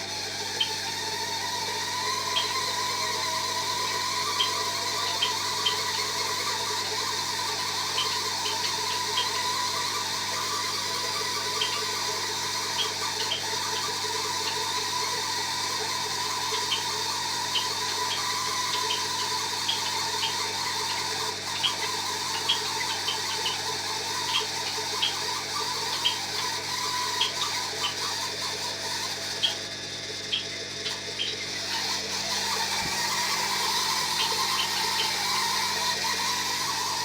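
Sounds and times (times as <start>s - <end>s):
washing machine whine: 0.0s - 37.0s.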